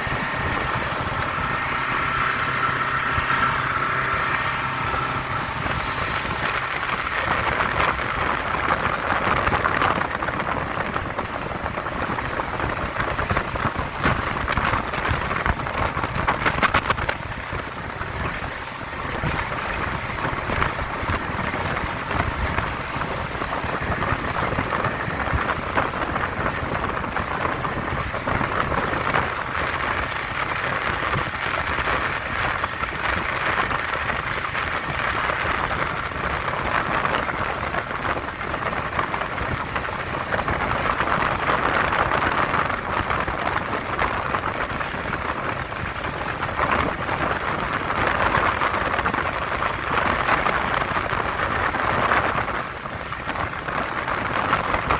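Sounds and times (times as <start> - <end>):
low rumble: 0.0 - 54.9
water and wind rushing past boat: 0.0 - 54.9.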